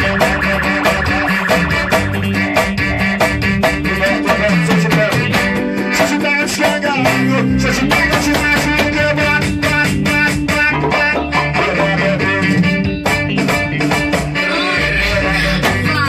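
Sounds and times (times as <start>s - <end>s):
bass: 0.0s - 16.0s
guitar melody: 0.0s - 16.0s
steady drum beat: 0.0s - 16.0s.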